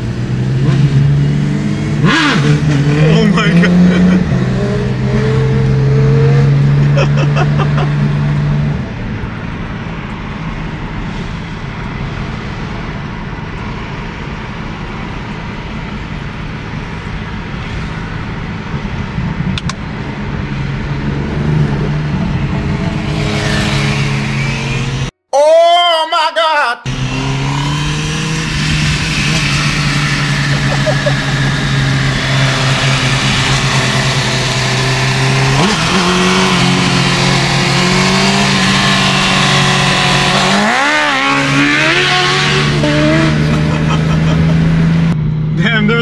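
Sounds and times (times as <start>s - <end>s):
car engine droning: 0.0s - 25.2s, 26.9s - 46.0s.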